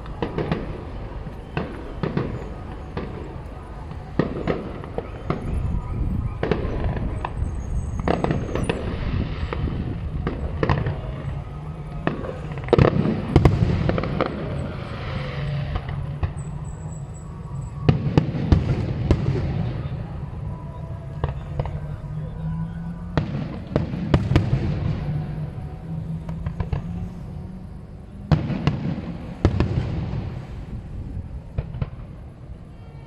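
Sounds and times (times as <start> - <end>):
fireworks crackling hiss: 0.0 - 22.6, 23.2 - 33.0.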